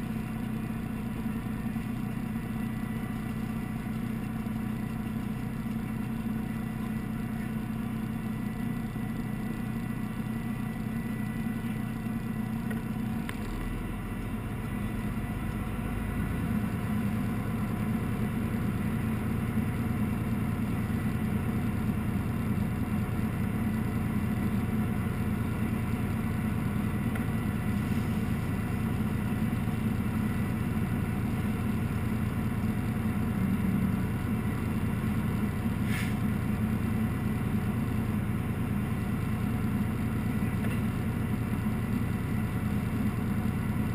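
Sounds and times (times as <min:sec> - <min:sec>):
fire engine engine running: 0:00.0 - 0:43.9.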